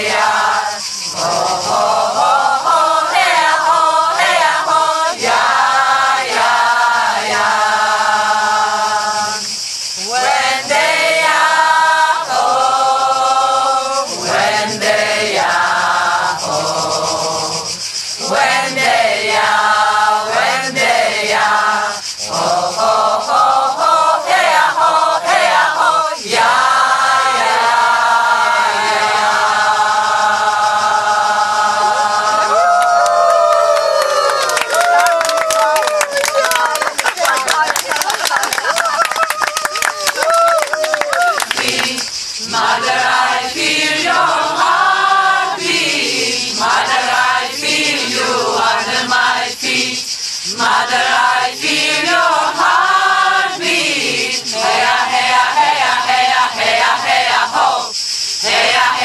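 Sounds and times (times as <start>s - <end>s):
men and women chanting in unison: 0.0s - 33.6s, 40.3s - 59.0s.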